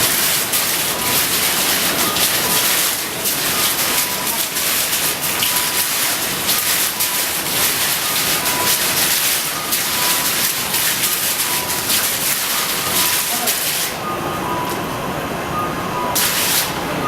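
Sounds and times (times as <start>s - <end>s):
waterfall splashing: 0.0s - 14.0s, 16.2s - 16.8s.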